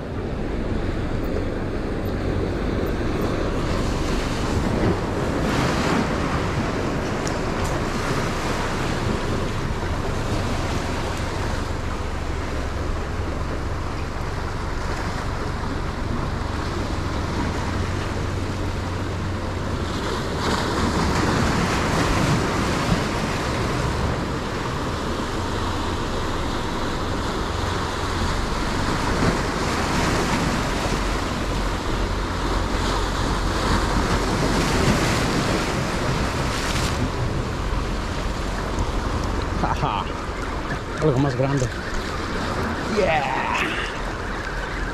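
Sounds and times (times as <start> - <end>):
wind rumbling on microphone: 0.0 - 44.9.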